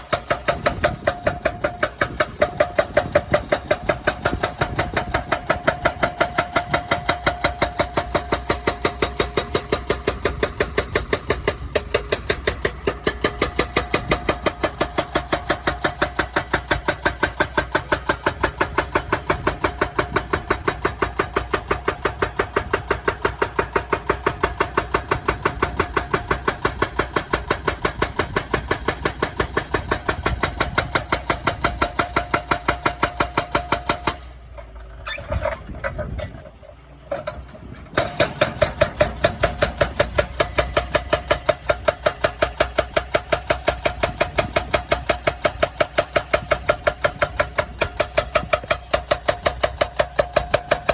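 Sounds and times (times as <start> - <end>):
hydraulic breaker hammering: 0.0 - 35.0, 37.1 - 50.9
excavator engine hum: 0.0 - 50.9.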